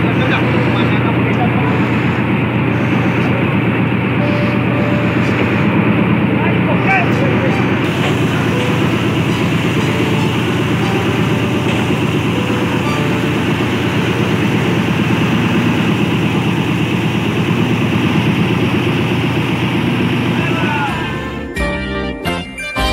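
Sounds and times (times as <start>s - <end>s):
boat engine pulsing: 0.0s - 21.8s.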